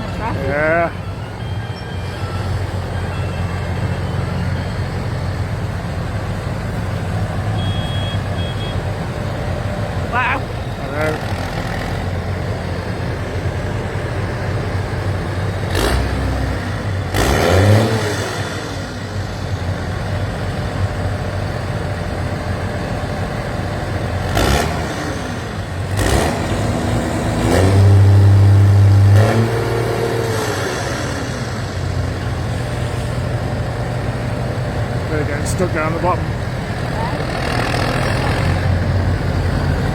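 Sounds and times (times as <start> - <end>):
tractor engines revving: 0.0 - 39.9.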